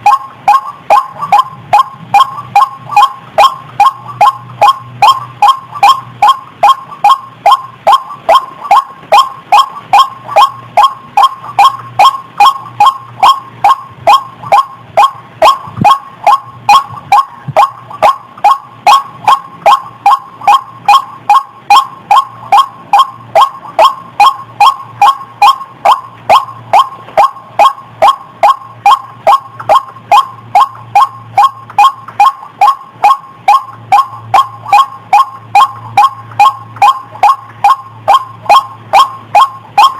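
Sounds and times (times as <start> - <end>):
waterhen calling harsh notes: 0.0 - 39.9.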